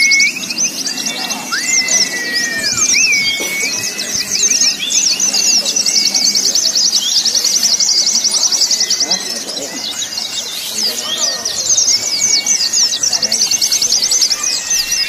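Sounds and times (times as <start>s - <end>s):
bird fast trill: 0.0s - 15.0s
low murmur of crowd voices: 0.0s - 15.0s
many birds chirping and twittering: 0.0s - 15.0s.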